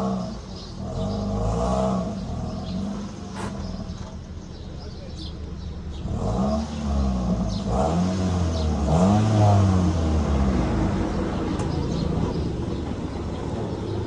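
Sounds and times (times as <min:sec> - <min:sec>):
vehicle engine revving and idling: 0:00.0 - 0:14.0.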